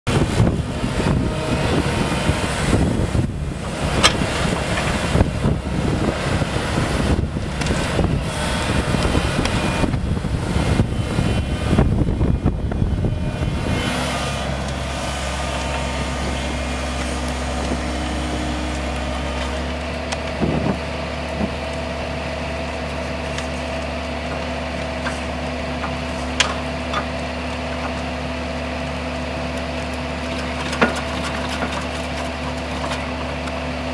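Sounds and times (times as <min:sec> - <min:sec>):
diesel engine running under load: 0:00.0 - 0:33.9
hydraulic drone: 0:00.1 - 0:33.9.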